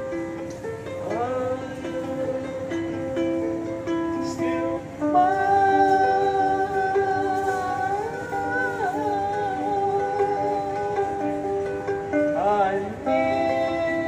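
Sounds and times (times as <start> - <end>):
ukulele playing: 0.0 - 14.0.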